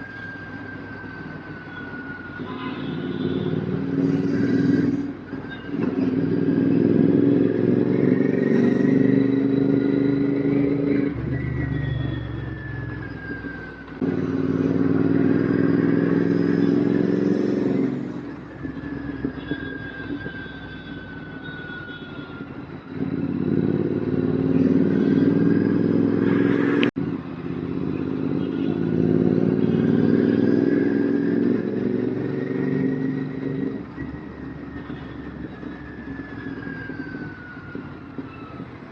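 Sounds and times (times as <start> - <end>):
motorcycle engine revving: 2.8 - 19.5, 23.0 - 37.5.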